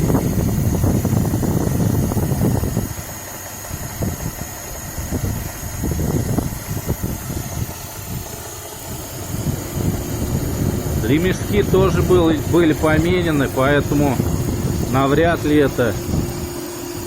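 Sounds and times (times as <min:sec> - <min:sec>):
car engine idling: 0:00.0 - 0:17.0
engine knocking: 0:00.0 - 0:17.0.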